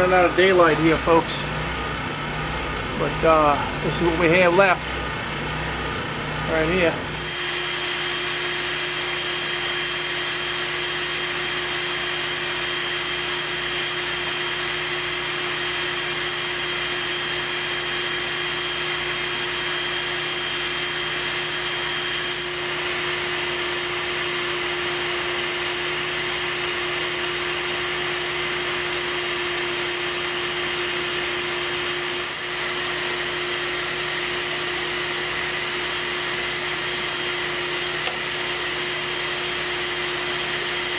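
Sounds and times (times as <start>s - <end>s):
vacuum motor humming: 0.0s - 40.9s.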